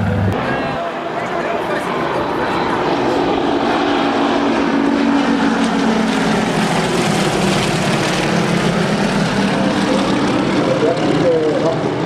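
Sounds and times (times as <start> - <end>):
propeller aircraft engine: 0.0 - 12.0.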